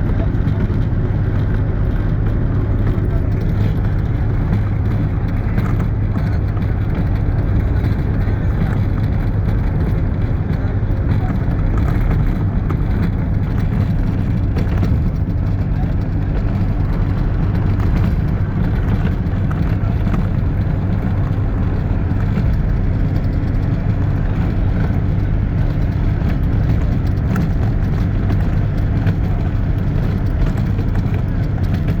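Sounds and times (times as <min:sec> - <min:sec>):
faint engine hum: 0:00.0 - 0:32.0
vehicle rumble in motion: 0:00.0 - 0:32.0.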